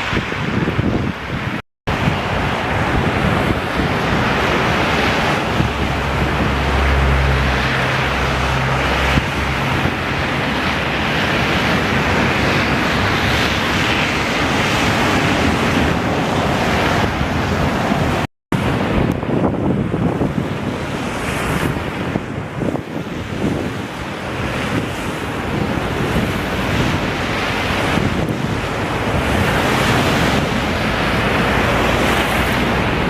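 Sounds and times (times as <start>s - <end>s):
storm wind on microphone: 0.0s - 33.0s.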